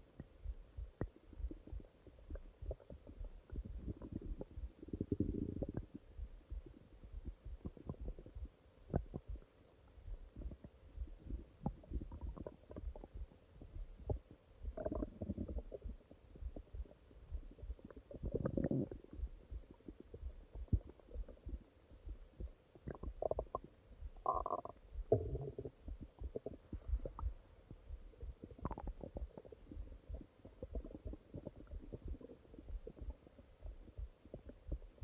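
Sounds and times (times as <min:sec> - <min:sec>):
stomach growling and gurgling: 0:00.0 - 0:09.5, 0:10.2 - 0:35.0.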